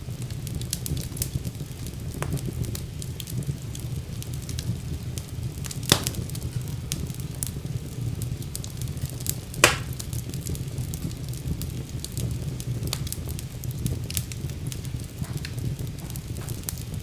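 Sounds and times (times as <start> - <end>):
loud fire pops: 0.0 - 17.0
wood fire crackling: 0.0 - 17.0.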